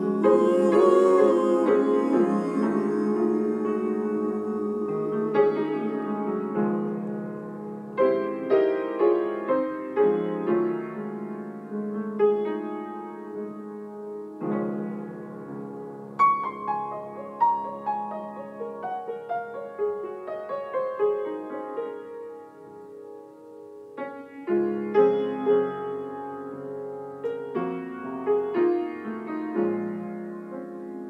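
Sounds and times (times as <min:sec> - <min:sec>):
solo piano: 0:00.0 - 0:31.0.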